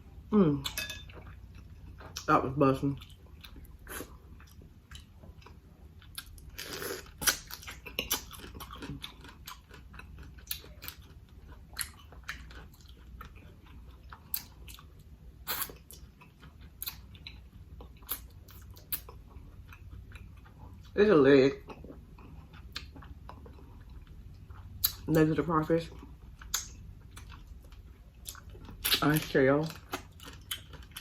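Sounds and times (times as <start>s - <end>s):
person chewing food: 0.6s - 21.0s, 21.6s - 25.1s, 25.8s - 31.0s.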